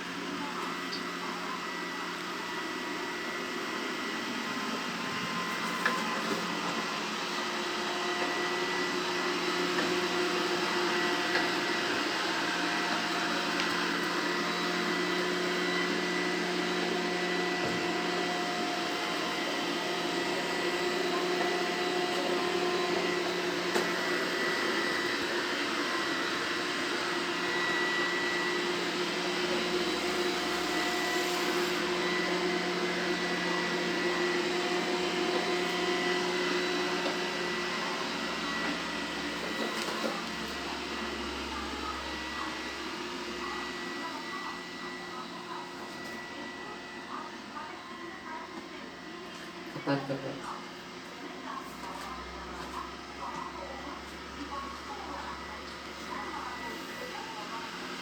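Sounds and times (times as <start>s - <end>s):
robot vacuum cleaner running: 0.0s - 58.0s.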